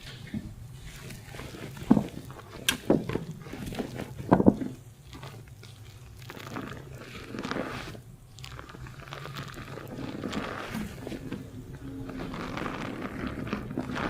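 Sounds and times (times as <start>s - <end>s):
fingers scrubbing lathered hair: 0.0s - 14.0s.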